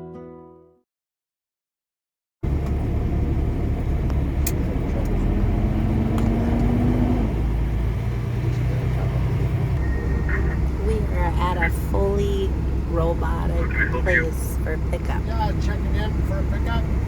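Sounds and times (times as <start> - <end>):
diesel truck engine rumble: 2.4 - 17.0.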